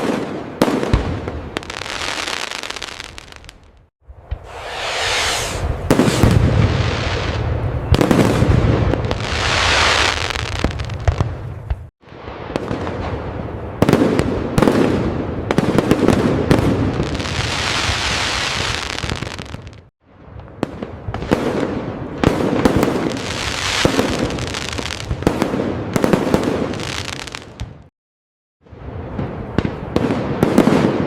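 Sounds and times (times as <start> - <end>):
fireworks bangs and crackling: 0.0 - 27.9, 28.7 - 31.0.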